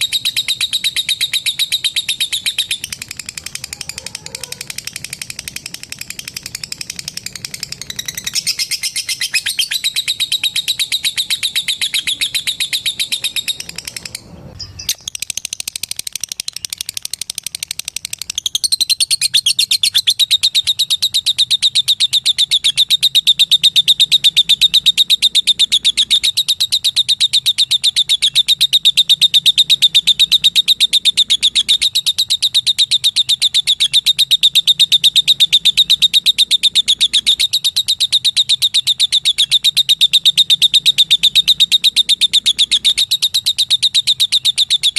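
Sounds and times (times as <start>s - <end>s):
lovebird chattering trill: 0.0s - 44.9s.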